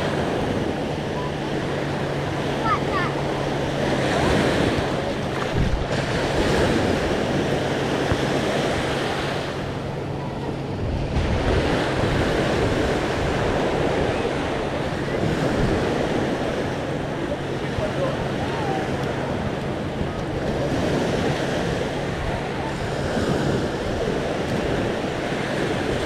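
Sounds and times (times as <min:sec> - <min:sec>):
sea waves breaking on beach: 0:00.0 - 0:26.0
wind buffeting microphone: 0:00.0 - 0:26.0.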